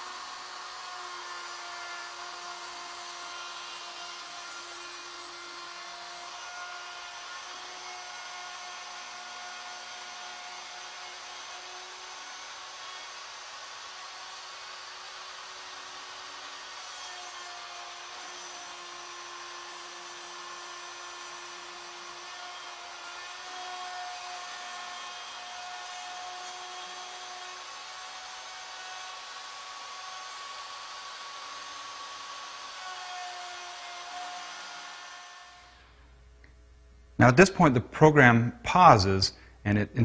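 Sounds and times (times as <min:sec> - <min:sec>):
bit cutting wood: 0:00.0 - 0:35.9
router motor whine: 0:00.0 - 0:35.9.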